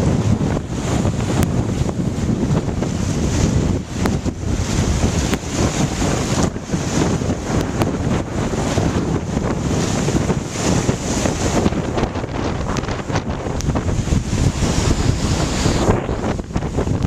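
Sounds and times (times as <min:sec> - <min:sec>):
waves churning: 0:00.0 - 0:17.0
wind buffeting microphone: 0:00.0 - 0:17.0.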